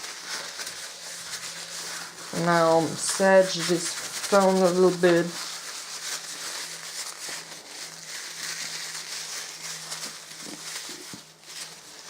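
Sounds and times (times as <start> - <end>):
paper scrubbing on glass screen: 0.0 - 12.0.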